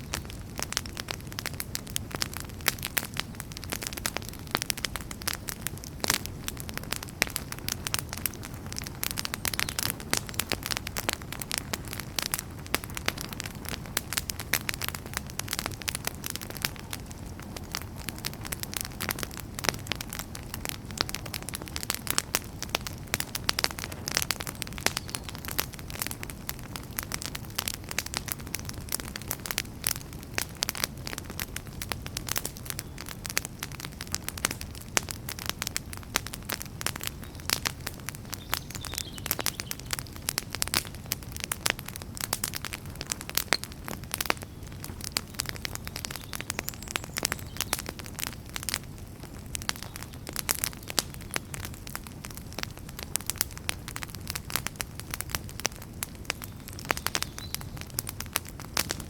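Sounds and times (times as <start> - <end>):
logs crackling and popping: 0.0 - 59.0
low rumble of flame: 0.0 - 59.0.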